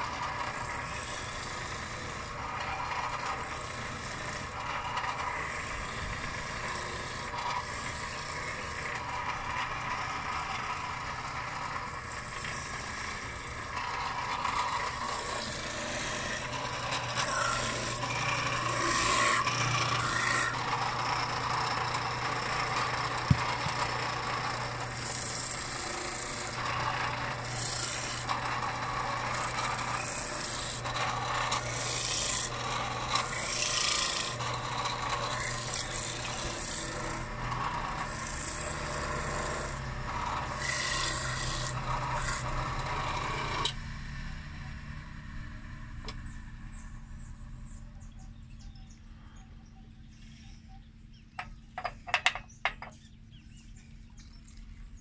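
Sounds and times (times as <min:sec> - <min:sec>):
oranges grinding on a reamer: 0:00.0 - 0:47.3, 0:51.3 - 0:55.0
motor humming: 0:00.0 - 0:55.0.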